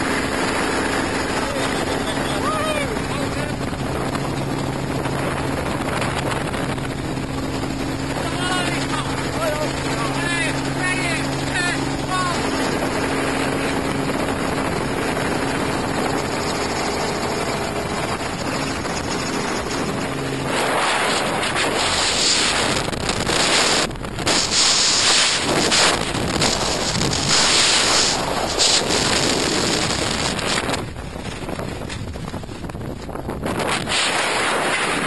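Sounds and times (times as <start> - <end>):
faint helicopter hum: 0.0 - 35.0
wind rushing over microphone: 0.0 - 35.0.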